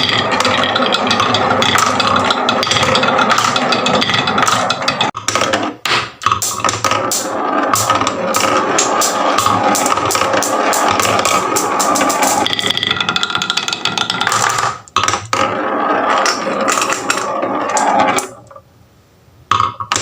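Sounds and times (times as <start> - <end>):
marbles clacking down wooden run: 0.0 - 5.6, 6.2 - 18.5.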